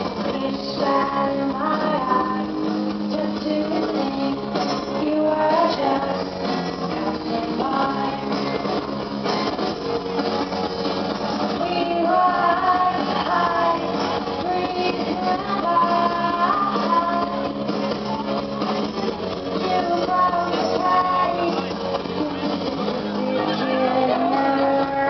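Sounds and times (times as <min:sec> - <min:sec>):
song with singing voice: 0:00.0 - 0:25.0.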